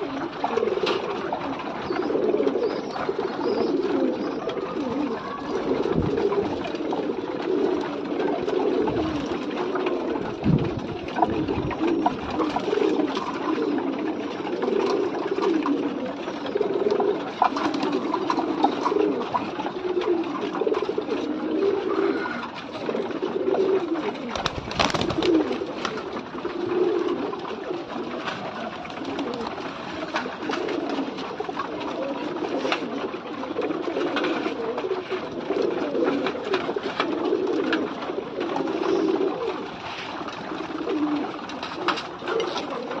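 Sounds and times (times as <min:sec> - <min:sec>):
pigeons cooing: 0:00.0 - 0:43.0.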